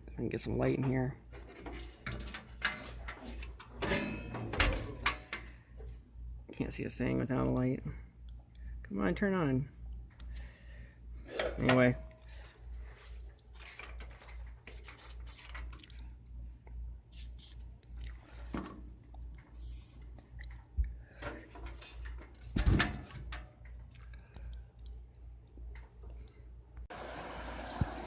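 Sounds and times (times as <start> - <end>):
small cooling fan humming: 0.0 - 28.0.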